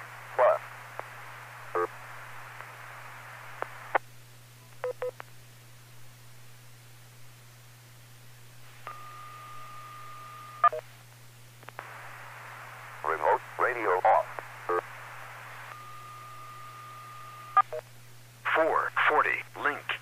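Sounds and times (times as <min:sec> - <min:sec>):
radio hum and hiss: 0:00.0 - 0:20.0.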